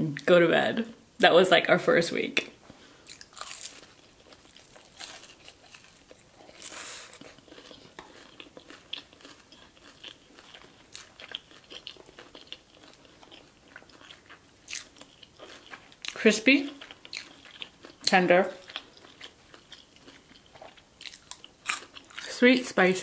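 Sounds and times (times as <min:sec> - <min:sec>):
crunching fried chicken: 0:03.0 - 0:22.4.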